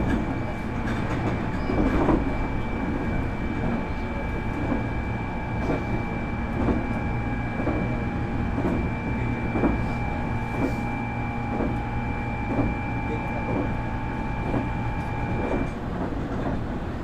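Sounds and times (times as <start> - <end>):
electric train motor whine: 0.0 - 15.8
train running gear rumble: 0.0 - 17.0.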